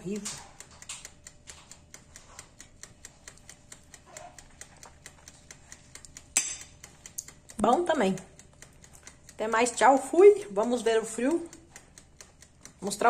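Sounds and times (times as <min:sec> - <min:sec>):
faint rapid clicking: 0:00.0 - 0:13.0.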